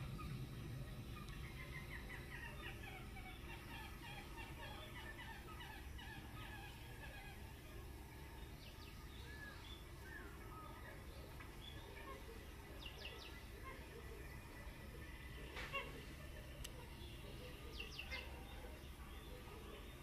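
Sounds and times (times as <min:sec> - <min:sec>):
bird chirps: 0:00.0 - 0:20.0
low steady hum: 0:00.0 - 0:20.0.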